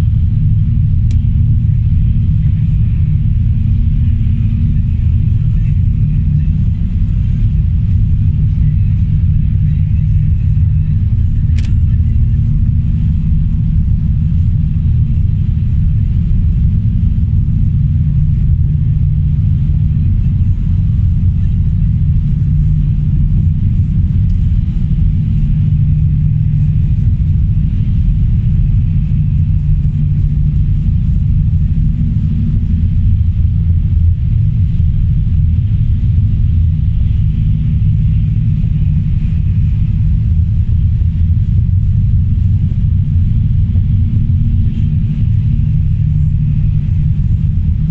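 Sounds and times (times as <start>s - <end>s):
car engine and tyres on road: 0.0s - 47.9s.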